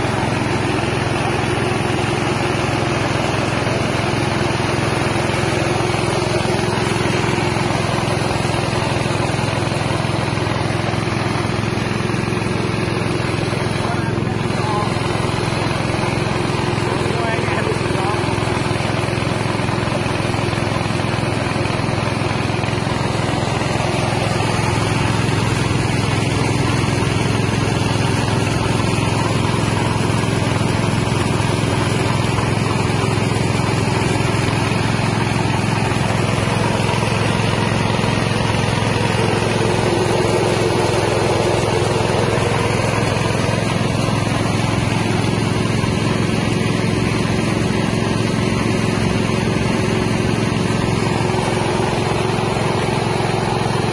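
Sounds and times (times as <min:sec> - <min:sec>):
rice mill engine running: 0:00.0 - 0:53.9.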